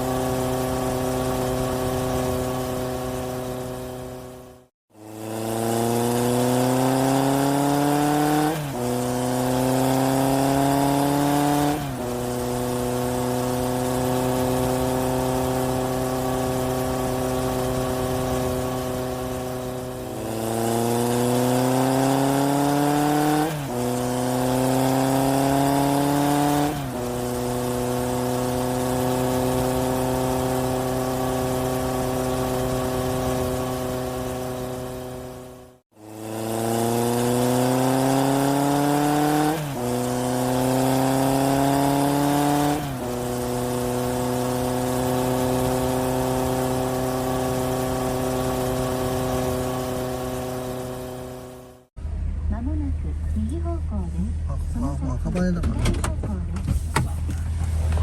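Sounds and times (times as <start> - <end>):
car engine accelerating through gears: 0.0 - 52.6, 54.7 - 58.0.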